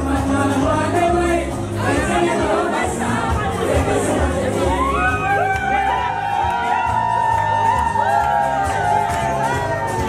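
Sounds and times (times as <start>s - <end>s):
crowd voices: 0.0s - 10.0s.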